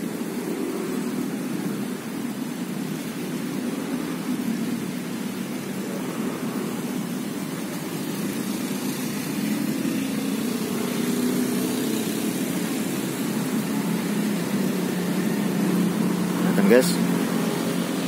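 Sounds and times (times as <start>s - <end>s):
background hiss: 0.0s - 18.0s
low engine hum: 0.0s - 18.0s.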